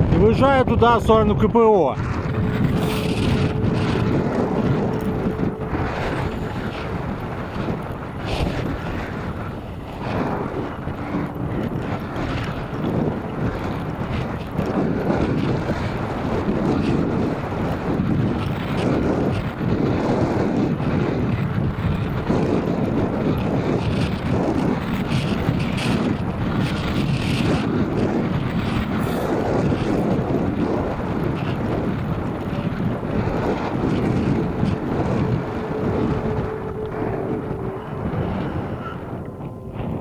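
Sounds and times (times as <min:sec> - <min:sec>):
strong wind buffeting microphone: 0:00.0 - 0:40.0.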